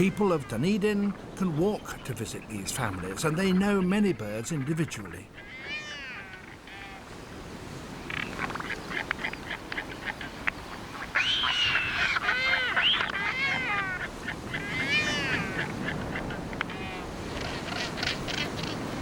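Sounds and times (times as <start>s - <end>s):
albatrosses calling: 0.0s - 7.2s, 7.9s - 19.0s.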